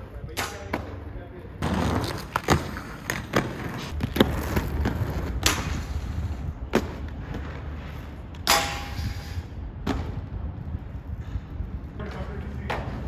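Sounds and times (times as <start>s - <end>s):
skate wheels rolling over concrete: 0.0s - 13.0s.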